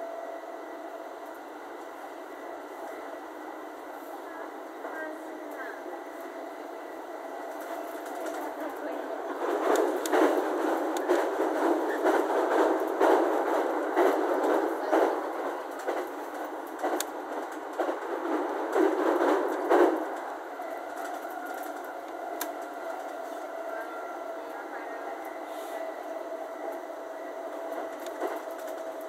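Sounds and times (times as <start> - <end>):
train running rumble: 0.0 - 29.0.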